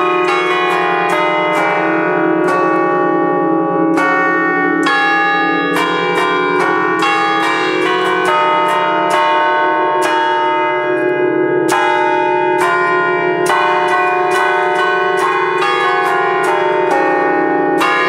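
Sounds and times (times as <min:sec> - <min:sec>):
church bells ringing a melody: 0:00.0 - 0:18.0.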